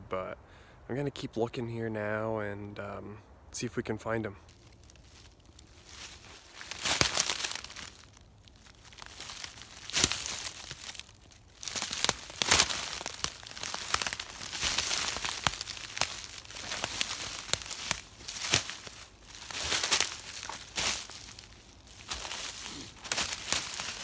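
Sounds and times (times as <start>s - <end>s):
footsteps crunching dry leaves: 4.4s - 24.0s
twigs snapping underfoot: 4.5s - 24.0s.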